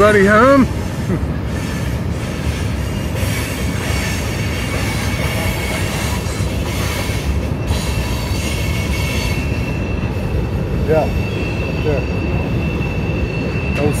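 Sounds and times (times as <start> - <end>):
high wheel squeal: 0.0 - 14.0
train wheels rumbling on rail: 0.0 - 14.0.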